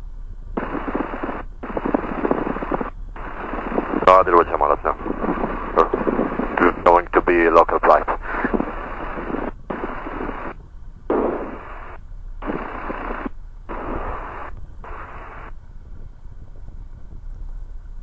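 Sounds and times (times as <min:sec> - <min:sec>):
faint low hum: 0:00.0 - 0:18.0
radio static bursts: 0:00.6 - 0:15.5.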